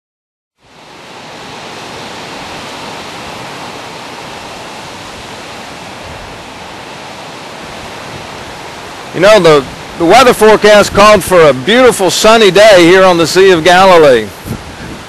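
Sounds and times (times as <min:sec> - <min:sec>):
strong storm wind rushing: 0:00.7 - 0:15.0.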